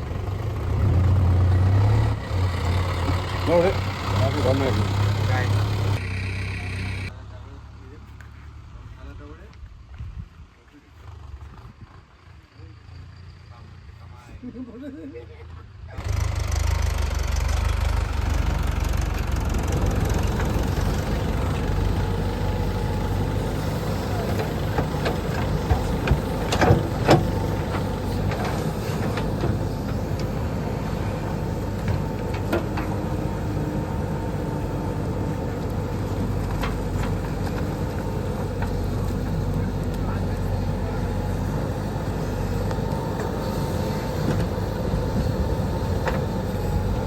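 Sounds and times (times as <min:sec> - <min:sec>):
diesel tractor engine running: 0:00.0 - 0:09.4, 0:15.9 - 0:47.0.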